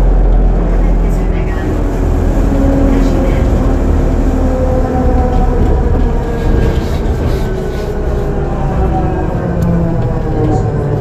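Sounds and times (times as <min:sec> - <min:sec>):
low rumble of vehicle running: 0:00.0 - 0:11.0.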